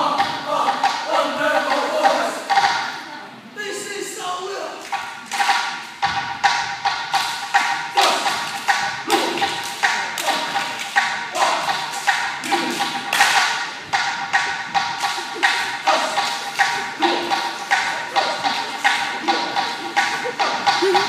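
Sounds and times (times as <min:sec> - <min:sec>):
fast wooden drumbeat: 0:00.0 - 0:02.9, 0:04.9 - 0:21.0
steady held tones: 0:00.0 - 0:21.0.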